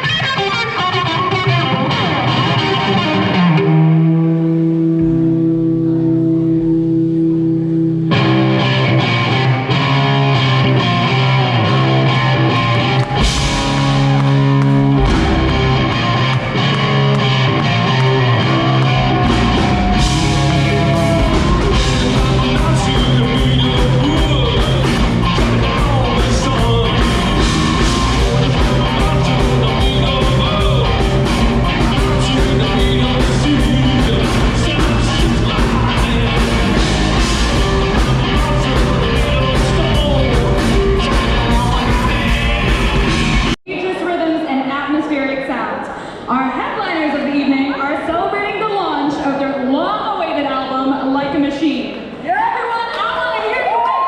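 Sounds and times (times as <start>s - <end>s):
live rock band playing: 0.0s - 43.6s
long held guitar notes: 0.0s - 43.6s.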